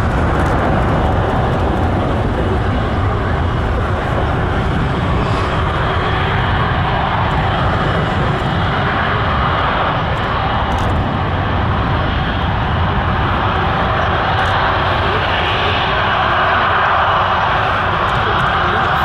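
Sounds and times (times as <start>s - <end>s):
airliner engines running: 0.0s - 19.0s.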